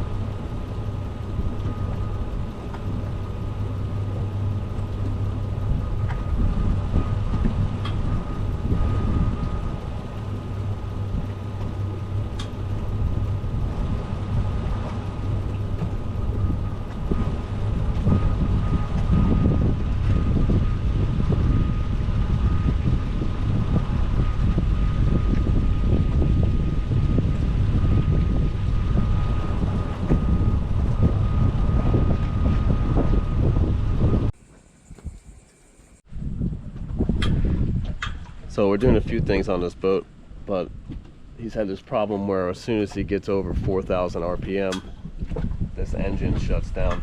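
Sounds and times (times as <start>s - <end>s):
outboard engine humming: 0.0s - 47.0s
wind buffeting microphone: 0.0s - 47.0s.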